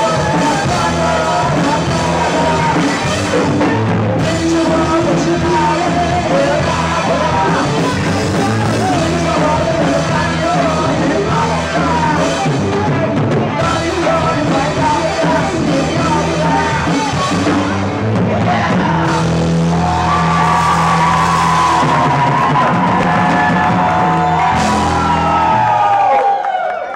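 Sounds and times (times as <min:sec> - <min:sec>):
person singing: 0:00.0 - 0:25.6
live rock band playing: 0:00.0 - 0:26.2.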